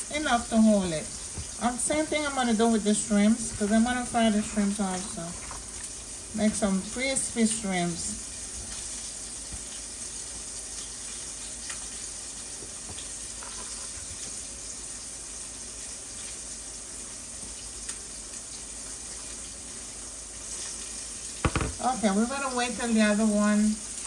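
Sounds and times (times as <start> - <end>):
oil crackling and popping: 0.0 - 22.2
fish sizzling in hot oil: 0.0 - 24.0.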